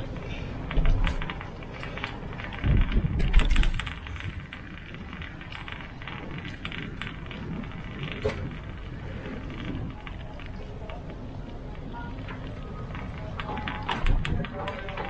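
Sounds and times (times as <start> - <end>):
bicycle parts rattling: 0.0 - 15.0
low rumble: 0.0 - 15.0.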